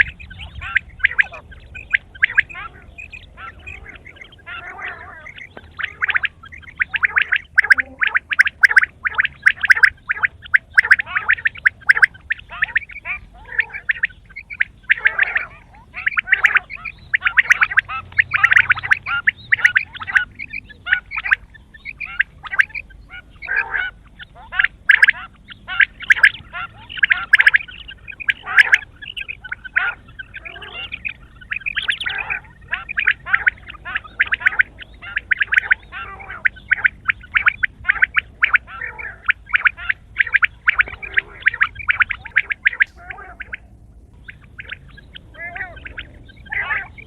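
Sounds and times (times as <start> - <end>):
quail calling in rattling bursts: 0.0 - 47.0.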